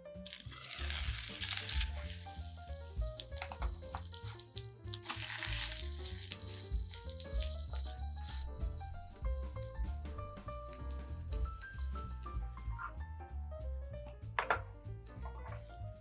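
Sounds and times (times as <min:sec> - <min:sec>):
batter sizzling in hot oil: 0:00.2 - 0:13.4, 0:14.2 - 0:16.0.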